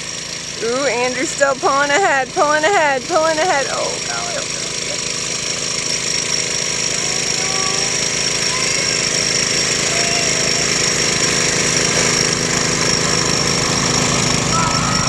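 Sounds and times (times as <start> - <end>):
garden tractor engine running: 0.0 - 15.0.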